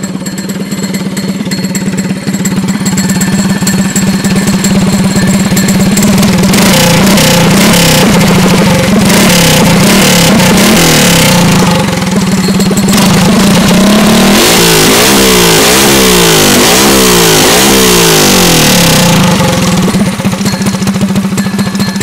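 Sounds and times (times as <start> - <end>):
kart engine revving and idling: 0.0 - 22.0.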